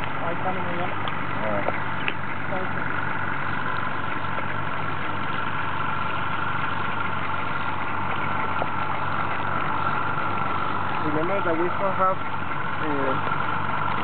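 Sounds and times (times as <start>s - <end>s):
boat motor idling: 0.0s - 14.0s.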